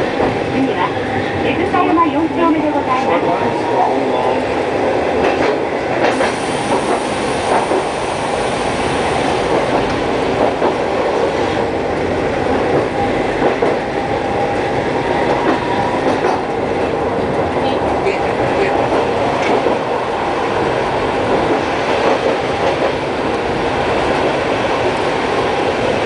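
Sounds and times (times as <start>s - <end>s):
steel wheels rumbling on rails: 0.0s - 26.0s.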